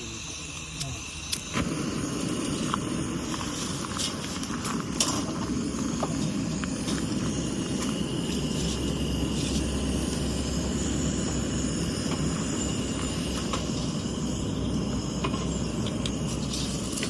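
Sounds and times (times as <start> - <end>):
campfire crackling and popping: 0.3 - 17.0
low hum: 0.7 - 17.0.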